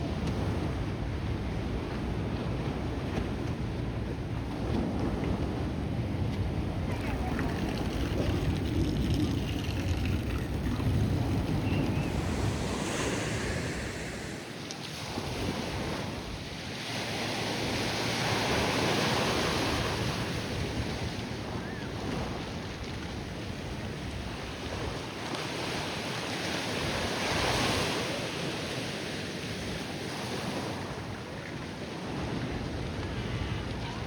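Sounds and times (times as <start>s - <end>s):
wind buffeting microphone: 0.0s - 25.8s, 29.5s - 34.0s
ocean surf on beach: 0.0s - 34.0s.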